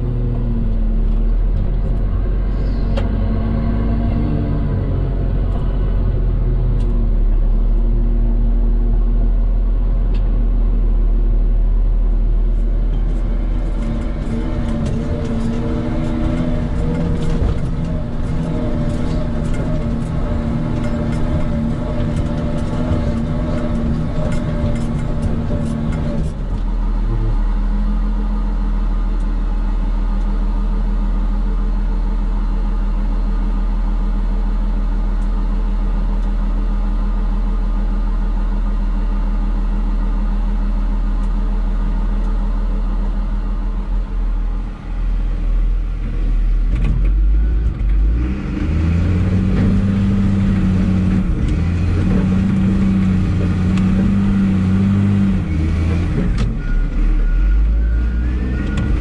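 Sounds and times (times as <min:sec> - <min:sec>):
truck diesel engine running: 0:00.0 - 0:59.0
wheel loader diesel engine: 0:00.0 - 0:59.0.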